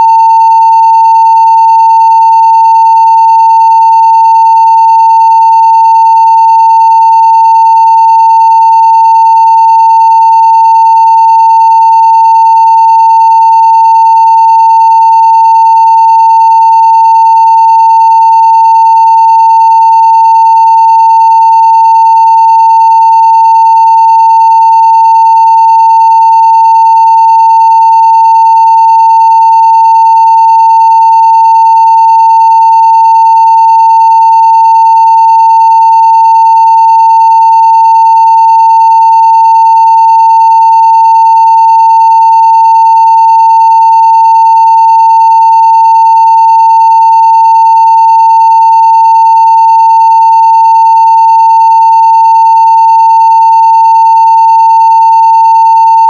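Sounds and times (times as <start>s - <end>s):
sine wave test tone: 0.0s - 56.0s.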